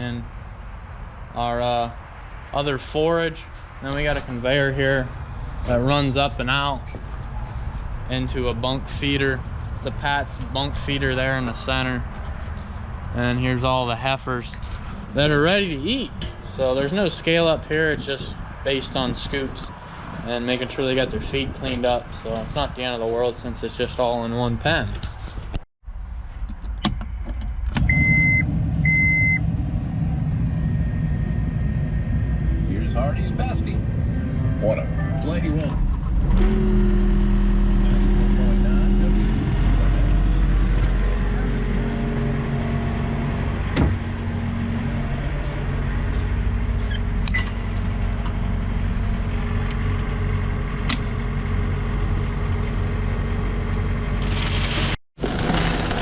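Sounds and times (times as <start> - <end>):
engine running: 0.0 - 17.4, 27.6 - 56.0.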